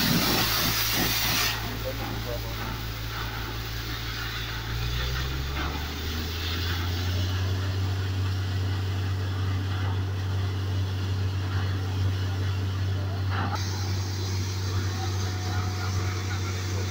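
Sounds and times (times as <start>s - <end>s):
drilling rig engine droning: 0.0s - 16.9s.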